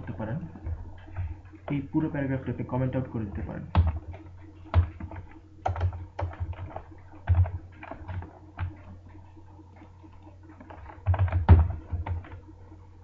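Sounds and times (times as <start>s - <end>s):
computer keyboard typing: 0.0s - 12.7s
faint low hum: 0.0s - 13.0s.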